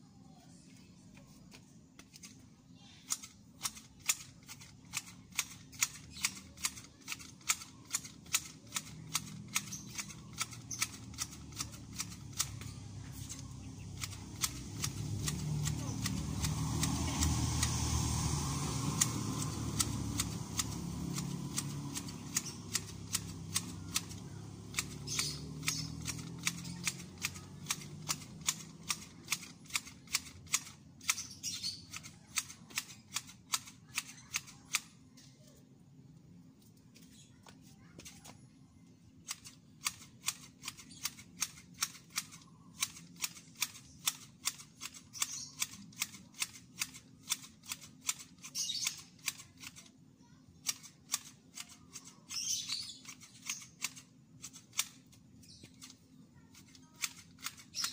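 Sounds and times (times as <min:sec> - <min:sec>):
grass shears snipping: 0:03.0 - 0:34.9, 0:39.2 - 0:50.0, 0:50.6 - 0:57.9.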